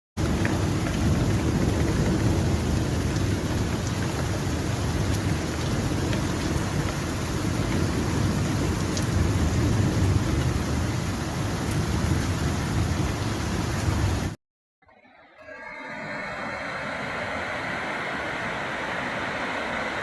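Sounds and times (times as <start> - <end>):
heavy rain falling: 0.2 - 14.4, 16.0 - 20.0.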